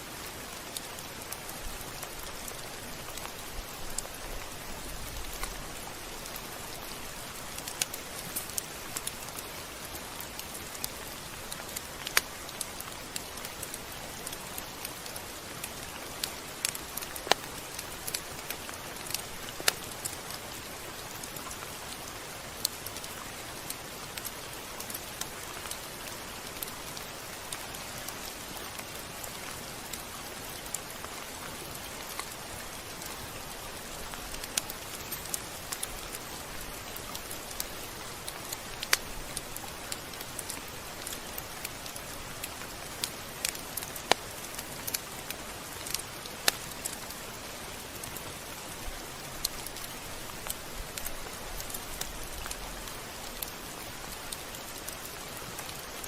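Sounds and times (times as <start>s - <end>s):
rain hiss: 0.0s - 56.0s
raindrops ticking on a surface: 0.0s - 56.0s.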